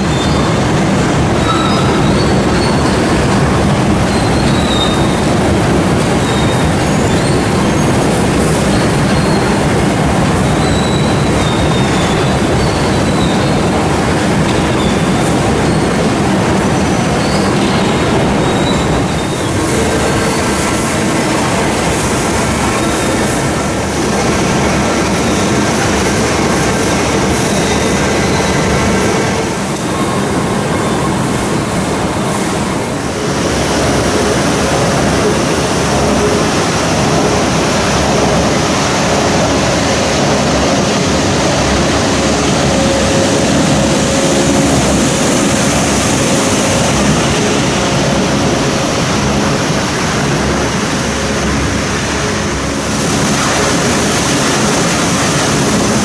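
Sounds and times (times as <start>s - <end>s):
faint hum of motors: 0.0s - 56.0s
recycling plant machinery din: 0.0s - 56.0s.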